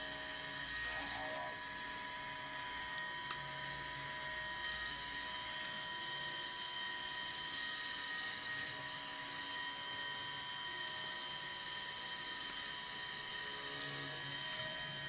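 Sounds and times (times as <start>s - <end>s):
gyroscope rotor whine: 0.0s - 15.0s.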